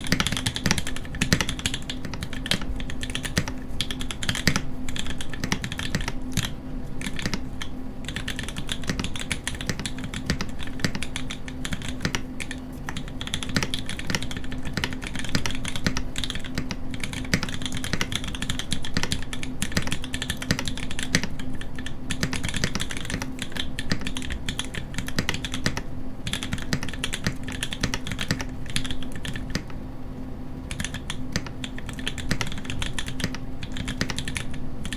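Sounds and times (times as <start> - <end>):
mechanical keyboard typing: 0.0 - 29.8, 30.7 - 34.9
steady low hum: 0.0 - 34.9.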